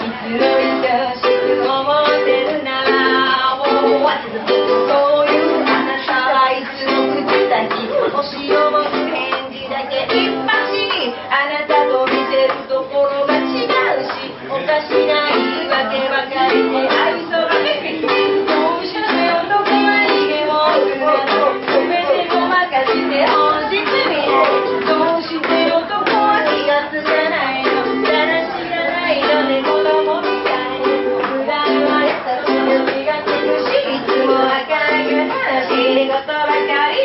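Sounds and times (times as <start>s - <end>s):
strummed ukulele: 0.0s - 37.0s
woman singing: 0.0s - 37.0s.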